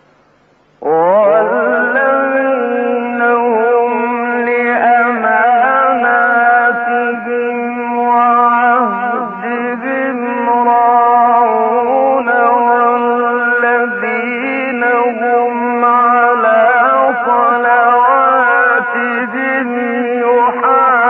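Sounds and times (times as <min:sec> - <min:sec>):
man chanting melodic recitation: 0:00.8 - 0:21.0.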